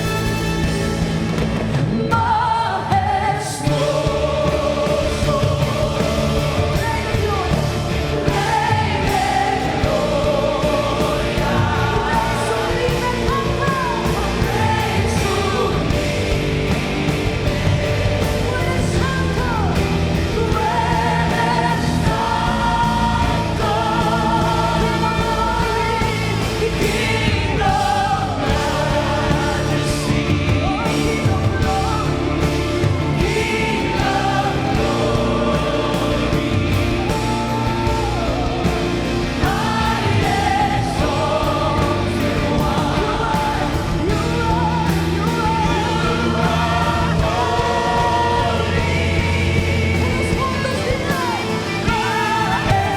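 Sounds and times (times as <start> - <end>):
band with drums and bass: 0.0 - 52.9
group singing: 0.0 - 52.9.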